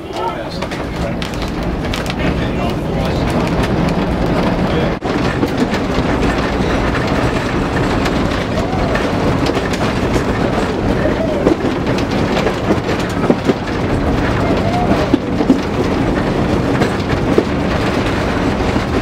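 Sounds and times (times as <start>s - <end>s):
rail clicks: 0.0s - 19.0s
tram wheels on rails: 0.0s - 19.0s.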